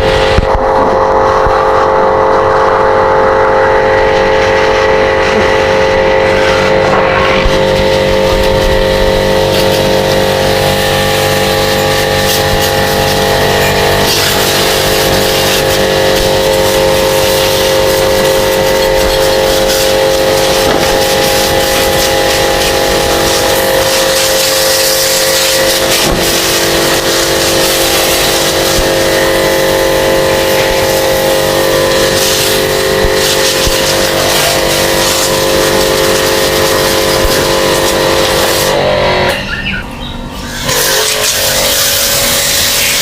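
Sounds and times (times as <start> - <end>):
pressure washer pump humming: 0.0 - 43.0
water jet hissing: 3.2 - 38.8, 40.4 - 43.0.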